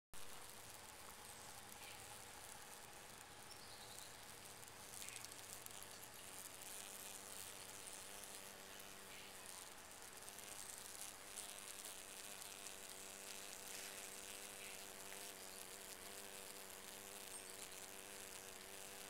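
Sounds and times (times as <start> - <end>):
high steady insect hiss: 0.2 - 19.0
wasp wings buzzing: 0.2 - 19.0.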